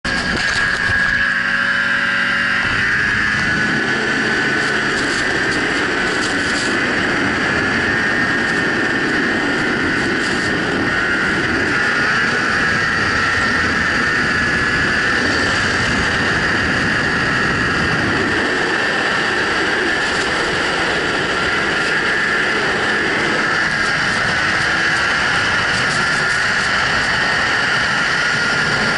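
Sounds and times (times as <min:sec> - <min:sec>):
snowmobile engine whining drone: 0:00.0 - 0:28.9.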